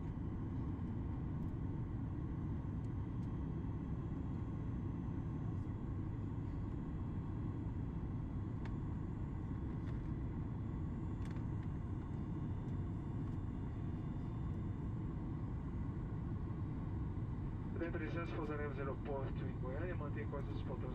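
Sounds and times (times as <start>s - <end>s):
airplane cabin engine rumble: 0.0s - 20.9s
faint steady whine: 0.0s - 20.9s.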